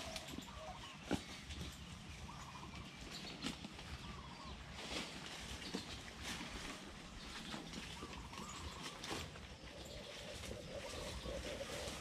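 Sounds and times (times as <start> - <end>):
faint wavering bird calls: 0.0 - 5.0, 7.2 - 12.0.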